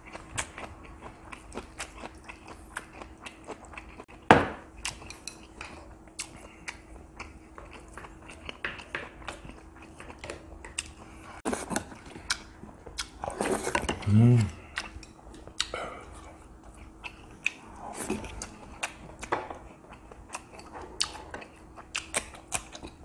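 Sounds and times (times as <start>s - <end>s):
chewing and mouth smacks: 0.0s - 4.2s, 4.8s - 23.0s.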